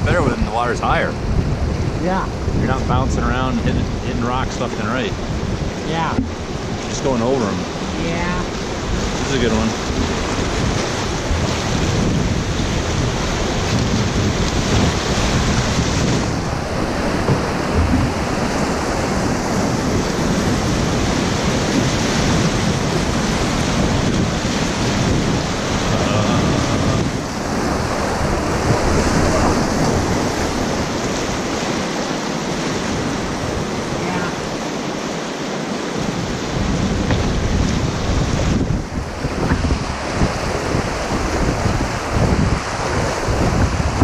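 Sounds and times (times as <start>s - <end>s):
river rapids roaring: 0.0s - 44.0s.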